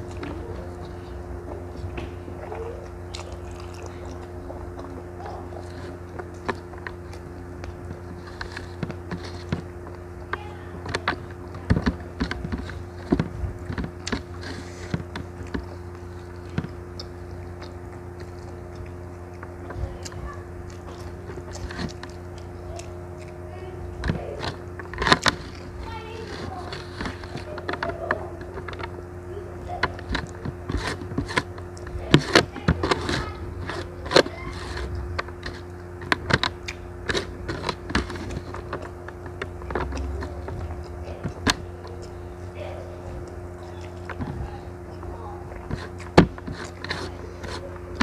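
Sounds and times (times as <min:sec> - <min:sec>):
person chewing food: 0:00.0 - 0:48.0
steady low hum: 0:00.0 - 0:48.0.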